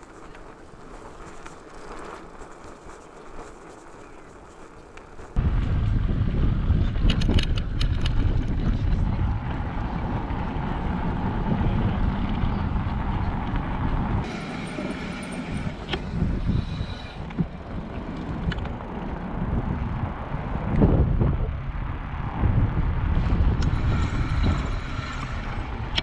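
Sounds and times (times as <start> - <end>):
road traffic: 0.0 - 26.0
wind rumble on microphone: 0.0 - 26.0.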